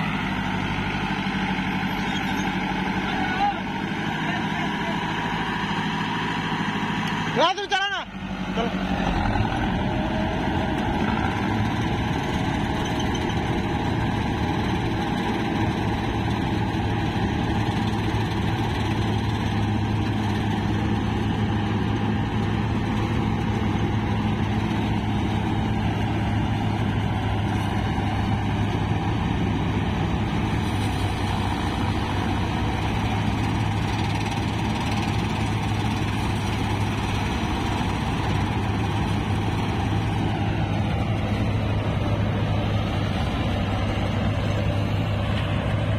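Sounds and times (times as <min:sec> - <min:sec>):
tractor engine and threshing drone: 0:00.0 - 0:45.9.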